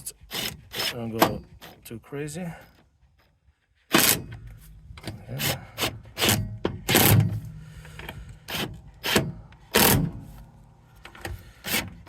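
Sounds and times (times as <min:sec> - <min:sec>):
hand tool tightening screws: 0:00.0 - 0:10.3, 0:10.9 - 0:12.0.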